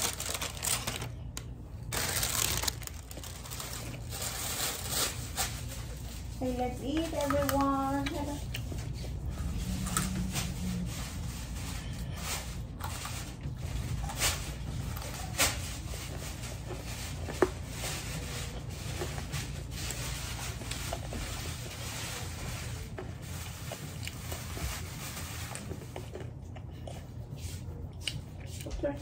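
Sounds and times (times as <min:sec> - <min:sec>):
child chewing crunchy food: 0:00.0 - 0:06.4, 0:07.0 - 0:29.0
low hum: 0:00.0 - 0:28.5.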